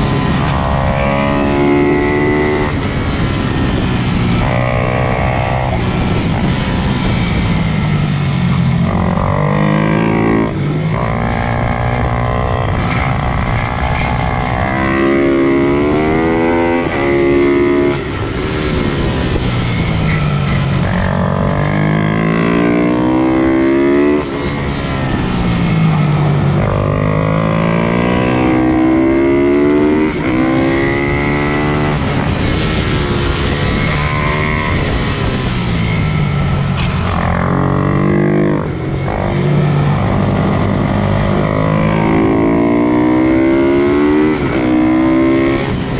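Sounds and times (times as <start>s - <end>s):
motorbike engines revving: 0.0s - 45.9s.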